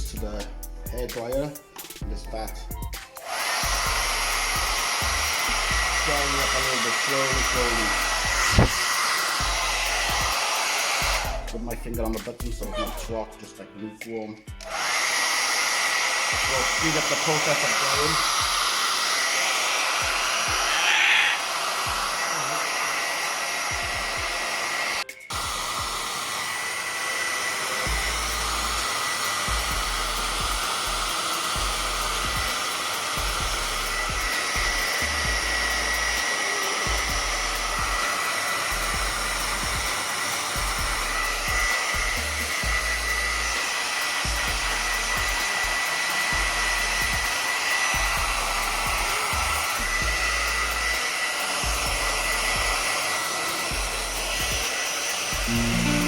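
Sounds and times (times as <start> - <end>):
hair dryer running: 2.8 - 13.3, 14.5 - 56.0.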